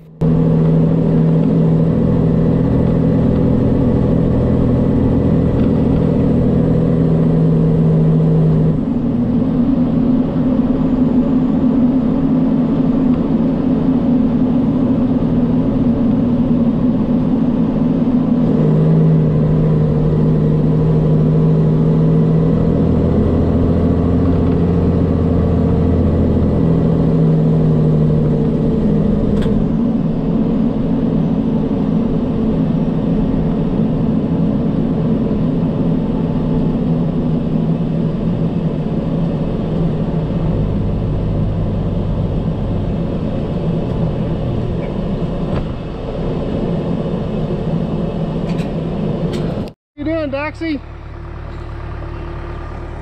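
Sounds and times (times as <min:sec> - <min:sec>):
deep low hum: 0:00.0 - 0:53.0
heavy engine running: 0:00.0 - 0:53.0.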